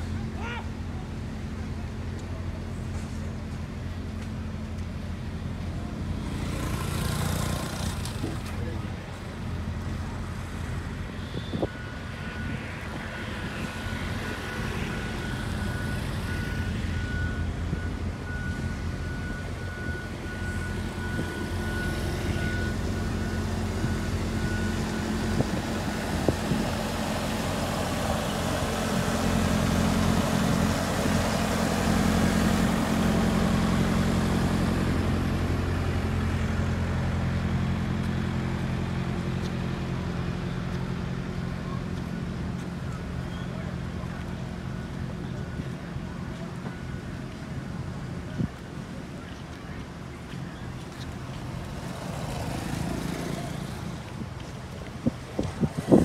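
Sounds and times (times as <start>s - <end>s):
diesel machinery engines humming: 0.0s - 56.0s.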